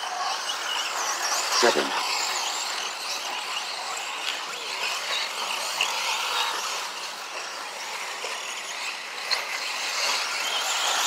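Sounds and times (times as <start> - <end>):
toy truck motor whine: 0.0 - 11.0.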